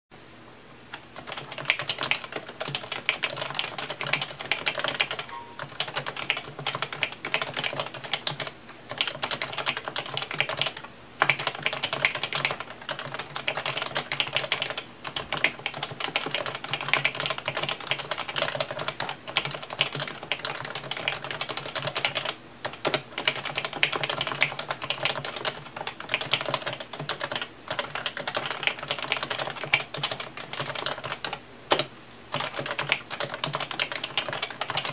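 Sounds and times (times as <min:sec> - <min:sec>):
fast keyboard typing: 0:00.9 - 0:34.9.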